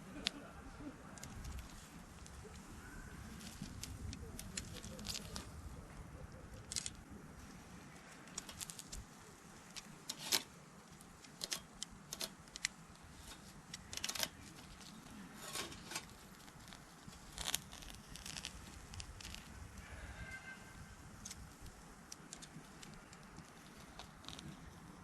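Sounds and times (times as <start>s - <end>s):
irregular clicks and crackles: 0.0s - 19.9s, 20.9s - 25.0s.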